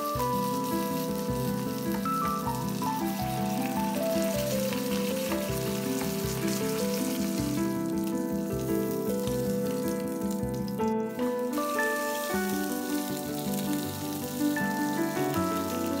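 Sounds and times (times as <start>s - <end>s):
oil sizzling and spitting: 0.0s - 16.0s.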